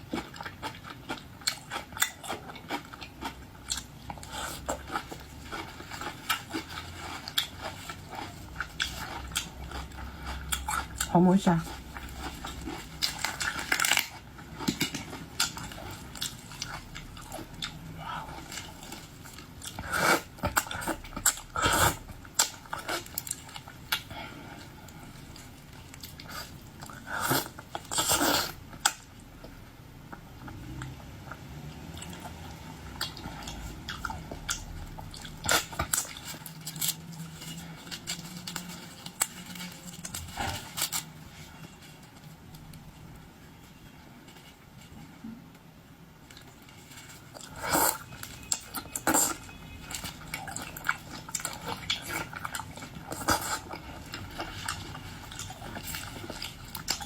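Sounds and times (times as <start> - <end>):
chewing and biting seafood: 0.0 - 29.1, 30.2 - 41.3, 47.3 - 57.0.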